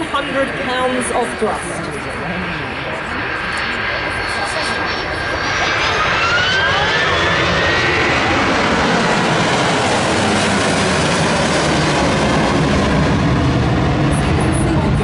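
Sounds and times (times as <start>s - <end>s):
loud jet engine roar: 0.0s - 15.0s
whine gliding in pitch: 0.0s - 15.0s.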